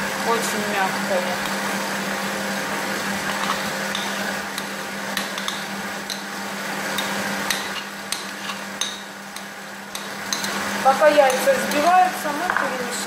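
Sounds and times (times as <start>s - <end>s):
food processor motor running: 0.0s - 13.0s.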